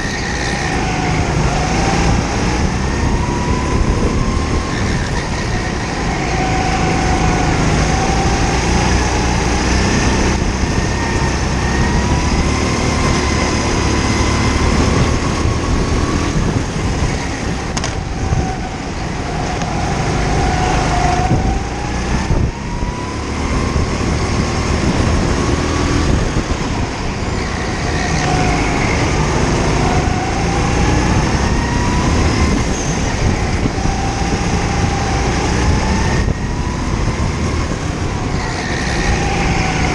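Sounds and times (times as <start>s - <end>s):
kart engine accelerating and slowing: 0.0s - 39.9s.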